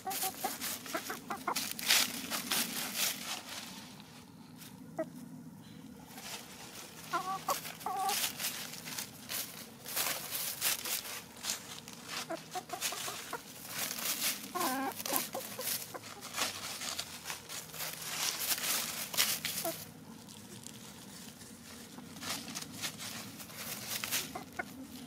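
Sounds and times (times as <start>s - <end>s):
hens clucking softly: 0.0s - 2.7s, 3.9s - 9.0s, 10.8s - 25.0s
dry leaves crackling: 0.0s - 5.0s, 5.9s - 25.0s.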